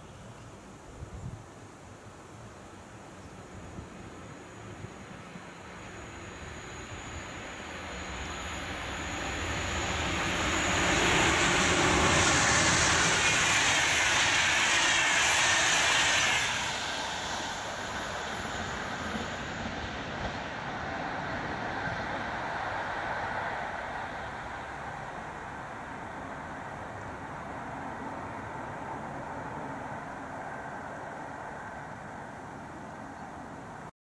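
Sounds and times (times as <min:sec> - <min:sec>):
train passing at speed: 0:02.0 - 0:33.9.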